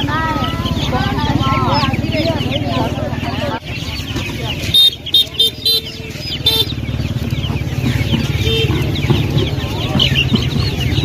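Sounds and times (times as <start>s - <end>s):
chickens clucking and squawking: 0.0s - 11.0s
steady background din: 0.0s - 11.0s.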